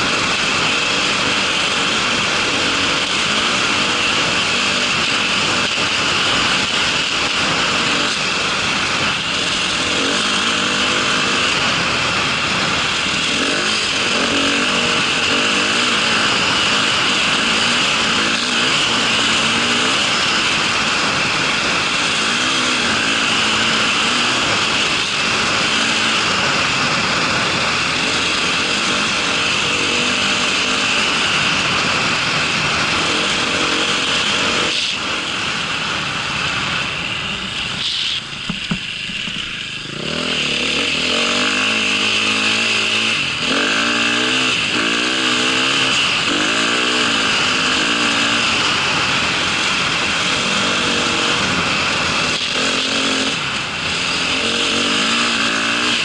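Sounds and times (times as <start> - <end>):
small vehicle engine revving: 0.0 - 56.0.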